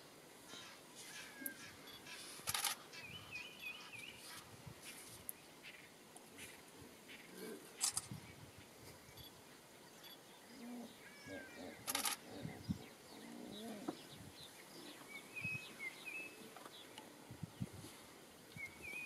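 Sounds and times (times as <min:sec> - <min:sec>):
birds calling: 0:00.5 - 0:04.4, 0:05.4 - 0:17.1.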